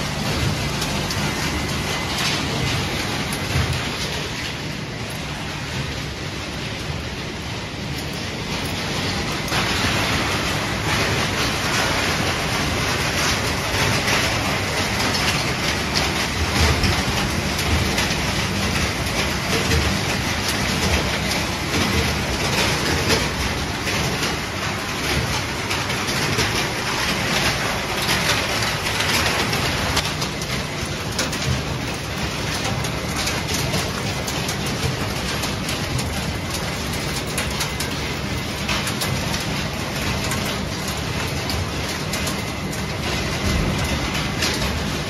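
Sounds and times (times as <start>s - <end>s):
fragments rattling on conveyor: 0.0s - 45.0s.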